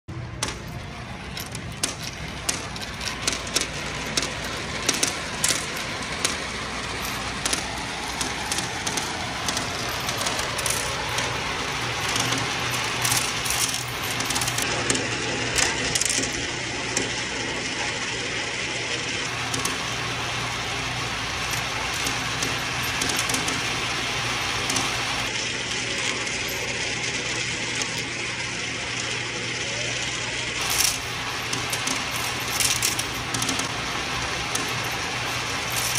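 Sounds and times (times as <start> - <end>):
coins rolling in coin funnel: 0.1 - 35.9.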